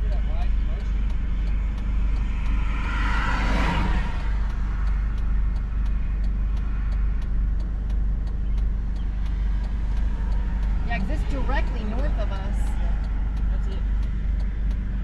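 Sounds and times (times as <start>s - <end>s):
car engine rumble: 0.0s - 15.0s
road noise: 0.0s - 15.0s
vehicle passing: 0.0s - 15.0s.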